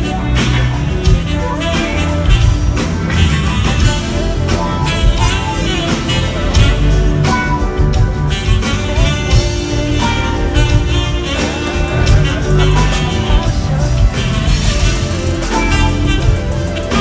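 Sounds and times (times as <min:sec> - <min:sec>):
bass: 0:00.0 - 0:17.0
drums: 0:00.0 - 0:17.0
electric guitar: 0:00.0 - 0:17.0
keyboards: 0:00.0 - 0:17.0.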